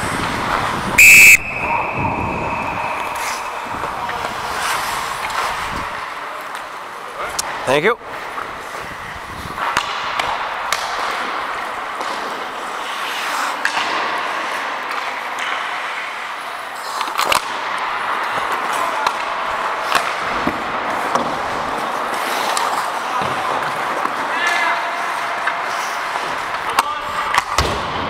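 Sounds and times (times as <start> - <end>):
skate blades scraping ice: 0.0 - 1.0, 2.3 - 27.6
hockey sticks and puck clacking: 0.0 - 28.0.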